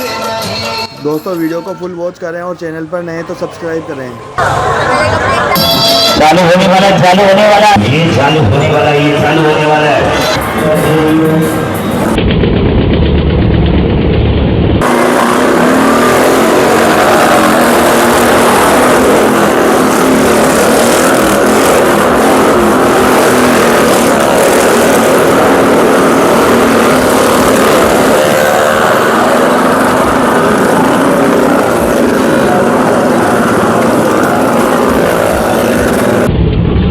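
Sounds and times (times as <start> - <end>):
motorcycle and car engines revving: 4.4 - 36.9.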